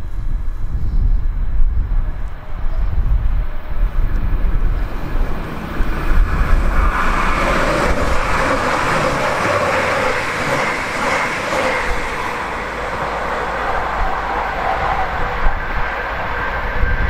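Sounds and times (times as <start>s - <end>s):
steady train whine: 0.0s - 17.0s
wind rumble on microphone: 0.0s - 17.0s
train rushing past: 2.0s - 17.0s.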